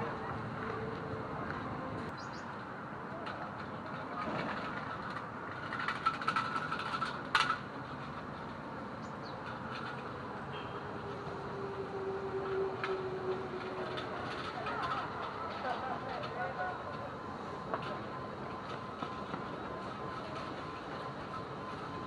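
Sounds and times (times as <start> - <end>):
city background rumble: 0.0 - 22.0.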